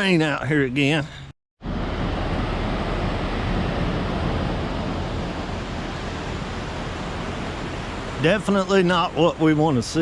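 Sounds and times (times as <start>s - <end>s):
creek water rushing: 1.7s - 10.0s.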